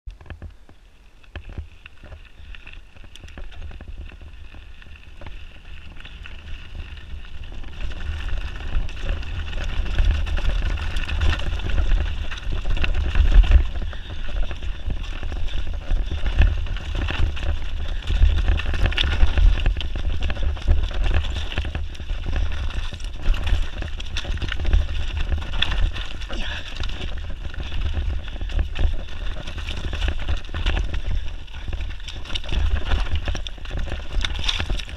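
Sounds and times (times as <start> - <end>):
bike rattling: 0.1 - 34.9
tyres crunching over stones: 0.1 - 34.9.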